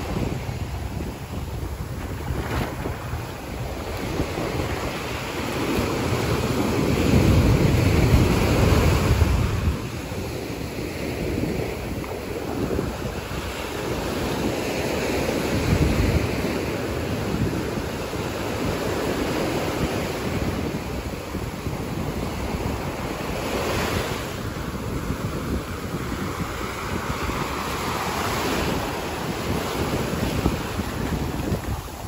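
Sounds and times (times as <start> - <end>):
waves breaking on sandy beach: 0.0 - 32.0
wind buffeting microphone: 0.0 - 32.0.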